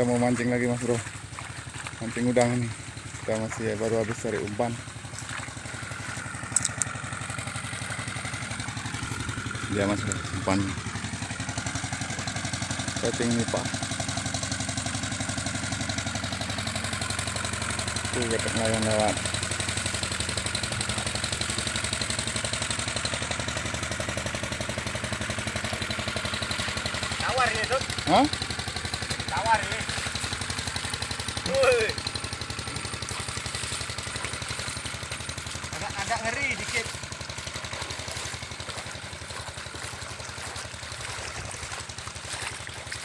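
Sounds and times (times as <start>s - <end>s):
motorboat engine chugging: 0.0s - 43.0s.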